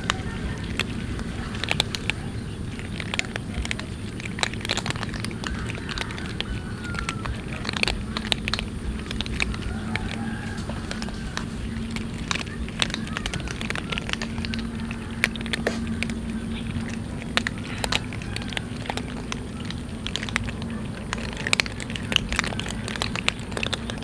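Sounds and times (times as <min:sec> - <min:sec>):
cats crunching dry kibble: 0:00.0 - 0:24.0
faint steady hum: 0:00.0 - 0:24.0.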